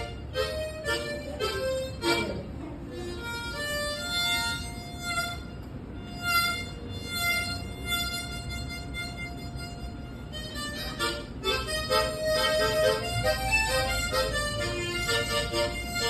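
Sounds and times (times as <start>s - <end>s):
solo harmonica melody: 0.0s - 16.0s.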